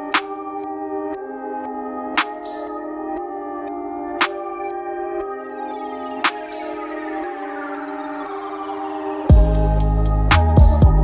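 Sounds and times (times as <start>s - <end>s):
ringing music chords: 0.0s - 11.0s.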